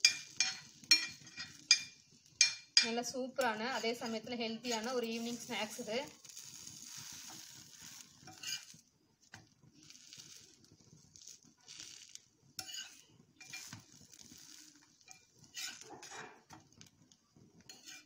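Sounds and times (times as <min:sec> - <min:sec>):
metal spatula scraping a pan: 0:00.0 - 0:08.8, 0:09.8 - 0:16.9, 0:17.6 - 0:18.0
bread sizzling in a pan: 0:00.0 - 0:18.0.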